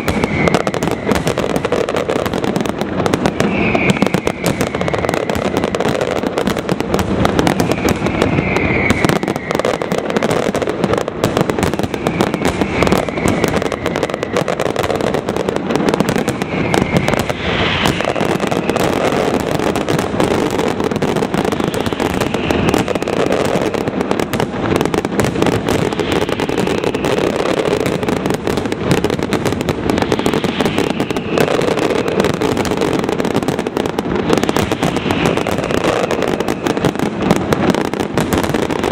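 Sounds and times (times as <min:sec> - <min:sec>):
falling firework whistles: 0:00.0 - 0:38.9
fireworks bursting and crackling: 0:00.0 - 0:38.9.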